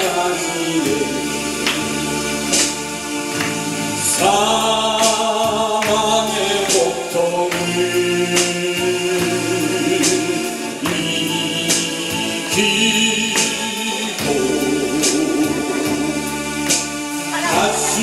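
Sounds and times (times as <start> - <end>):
man singing a hymn: 0.0 - 2.8, 4.0 - 16.4, 17.5 - 18.0
electronic keyboard accompaniment: 0.0 - 18.0
percussion hits: 0.0 - 18.0.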